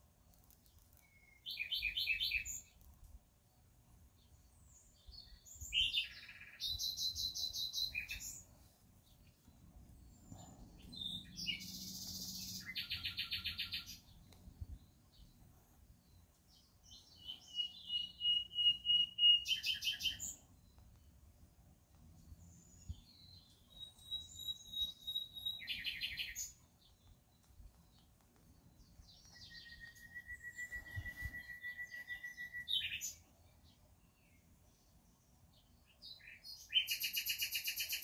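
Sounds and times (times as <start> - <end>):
songbird singing trills: 0.7 - 2.9, 4.2 - 21.5, 22.2 - 38.0.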